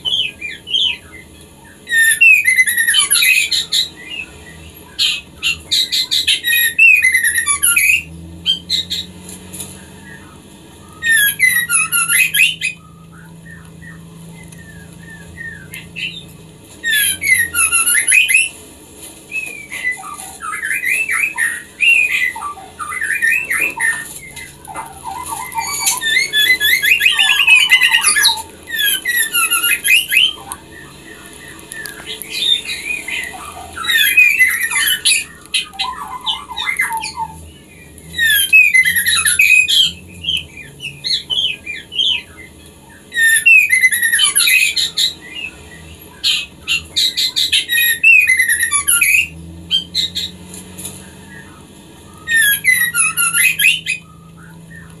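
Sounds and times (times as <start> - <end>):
bird calling sharp notes: 0.0 - 55.0.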